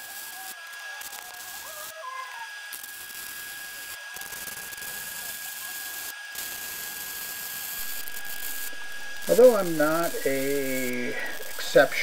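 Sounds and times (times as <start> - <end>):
welding arc crackling: 0.0 - 12.0.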